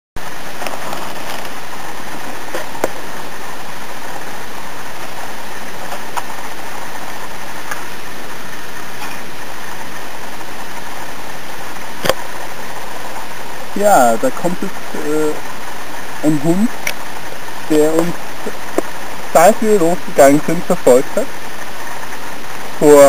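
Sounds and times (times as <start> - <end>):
steady hiss: 0.2 - 23.0.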